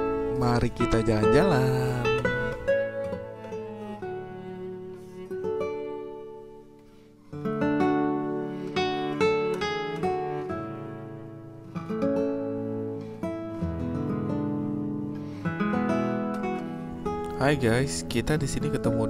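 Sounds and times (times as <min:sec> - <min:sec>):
acoustic guitar plucked and strummed: 0:00.0 - 0:19.0.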